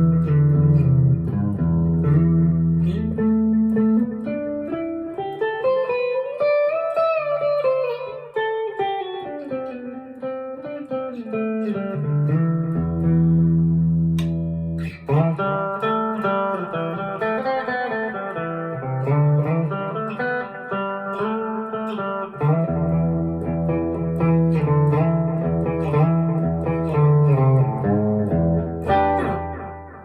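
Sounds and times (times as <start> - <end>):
clean electric guitar: 0.0 - 30.0.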